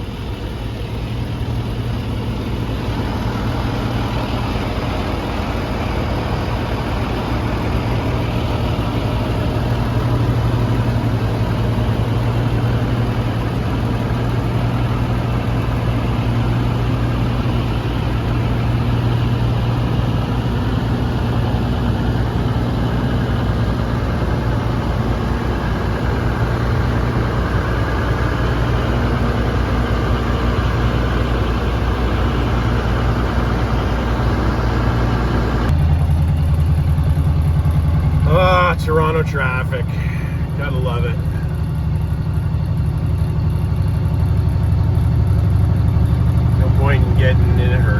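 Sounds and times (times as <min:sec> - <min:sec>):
diesel truck engine droning: 0:00.0 - 0:47.9.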